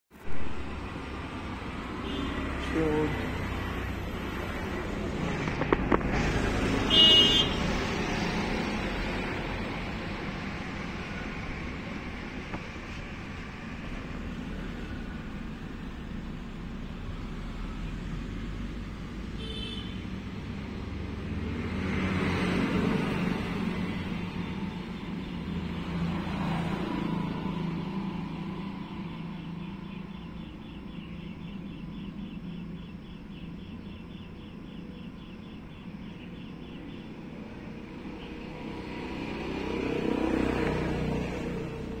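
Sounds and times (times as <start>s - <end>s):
traffic hum: 0.1s - 42.0s
vehicles passing by: 0.1s - 42.0s.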